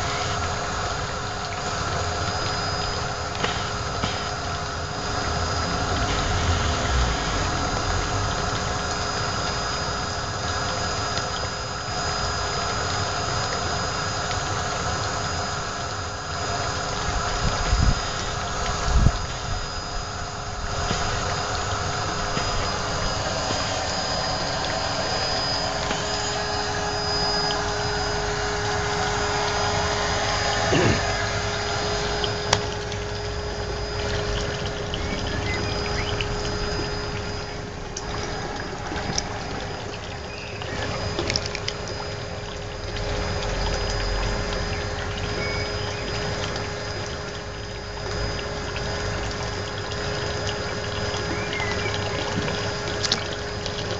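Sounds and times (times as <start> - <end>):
pump humming: 0.0 - 53.9
water rushing: 0.0 - 53.9.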